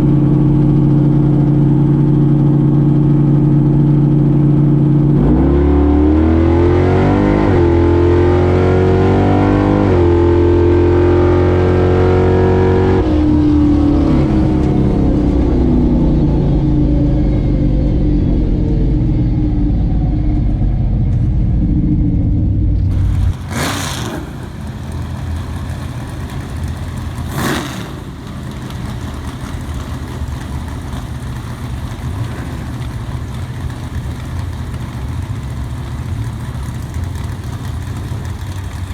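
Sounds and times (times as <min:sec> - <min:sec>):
drag car engine accelerating: 0:00.0 - 0:38.9.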